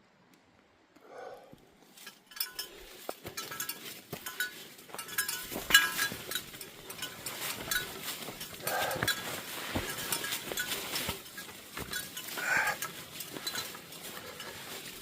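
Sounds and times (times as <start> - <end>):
footsteps crunching on trail: 1.6 - 15.0
gear jingling: 1.9 - 15.0.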